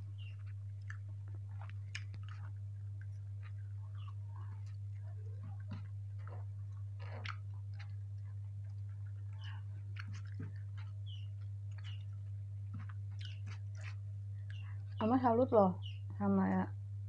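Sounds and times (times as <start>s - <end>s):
steady low hum: 0.0s - 17.0s
chewing food: 0.1s - 15.0s.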